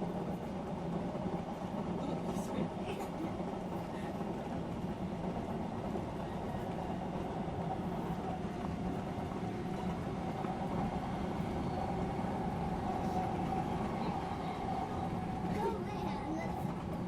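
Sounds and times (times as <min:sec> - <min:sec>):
faint train whine: 0:00.0 - 0:17.0
train wheels rumbling on rails: 0:00.0 - 0:17.0.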